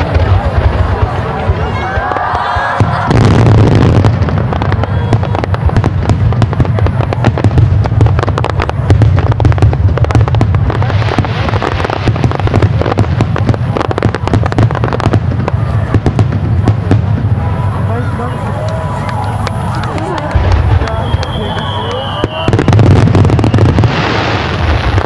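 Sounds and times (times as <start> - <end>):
fireworks cracks and pops: 0.0 - 25.0
low fireworks booming: 0.0 - 25.0.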